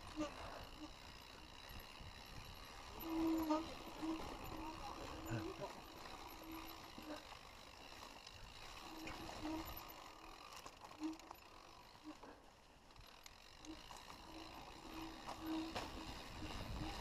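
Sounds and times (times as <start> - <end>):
bike clicks and rattles: 0.0 - 17.0
bike tyres on dirt trail: 0.0 - 17.0.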